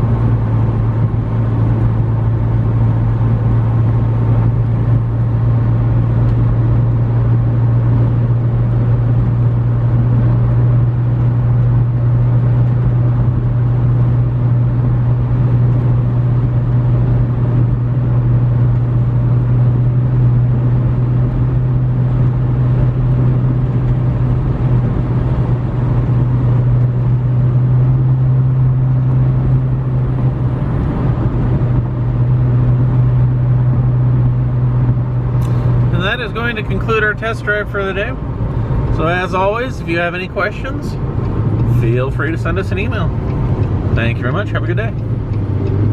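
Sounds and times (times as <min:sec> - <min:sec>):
car engine drone: 0:00.0 - 0:45.9
road noise: 0:00.0 - 0:45.9.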